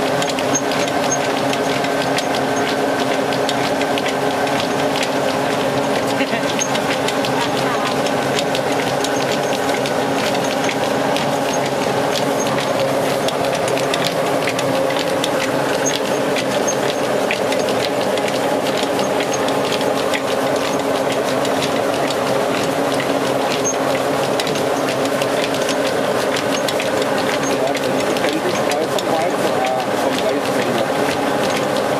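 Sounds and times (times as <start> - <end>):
rice mill mechanical drone: 0.0 - 31.9.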